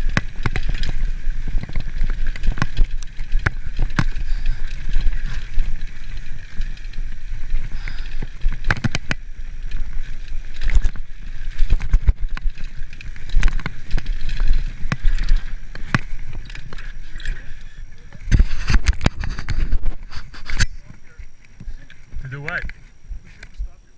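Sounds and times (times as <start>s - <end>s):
tyres rolling over dirt and rocks: 0.0s - 20.1s
bike knocking and rattling: 0.0s - 23.9s.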